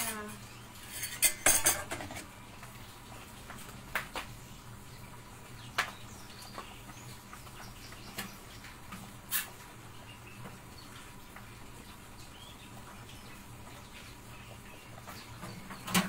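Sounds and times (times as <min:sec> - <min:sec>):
syrup simmering low hum: 0:00.0 - 0:16.0.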